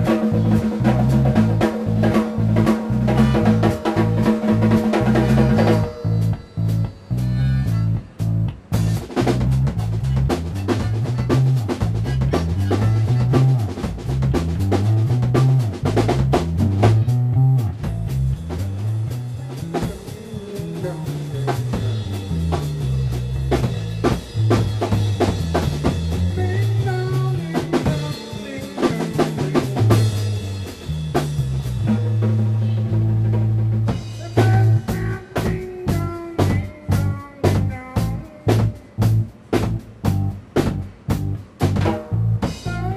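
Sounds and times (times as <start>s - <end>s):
bass guitar line: 0.0s - 42.9s
busy drumming: 0.0s - 42.9s.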